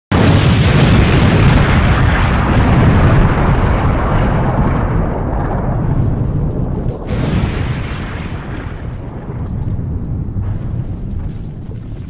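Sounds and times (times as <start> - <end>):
heavy rumbling explosion: 0.1 - 12.0.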